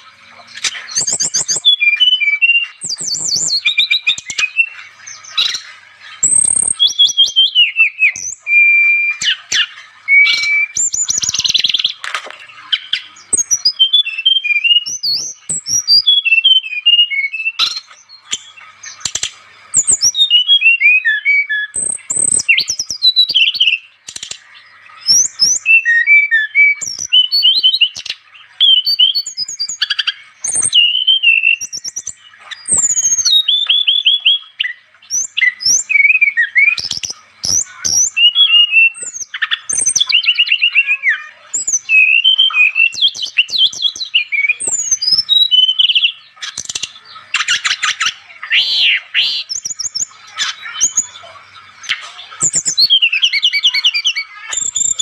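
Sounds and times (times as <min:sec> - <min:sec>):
flycatcher singing whistles and trills: 0:00.0 - 0:12.0, 0:12.6 - 0:55.0.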